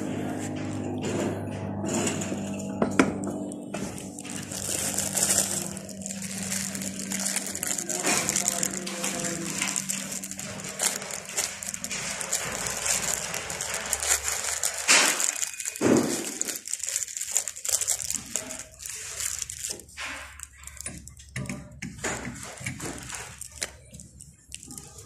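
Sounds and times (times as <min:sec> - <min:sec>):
gloved hands rustling and crinkling: 0:03.2 - 0:21.3, 0:21.9 - 0:25.0.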